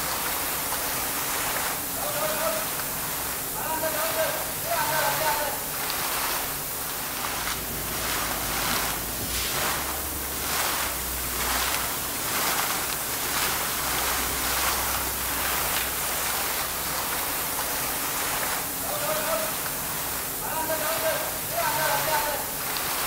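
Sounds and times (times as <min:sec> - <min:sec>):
water gushing and splashing: 0:00.0 - 0:23.0.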